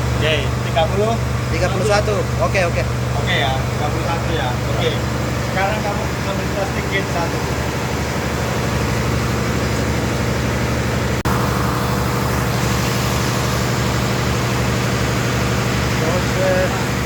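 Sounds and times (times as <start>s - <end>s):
heavy engine low hum: 0.0s - 17.0s.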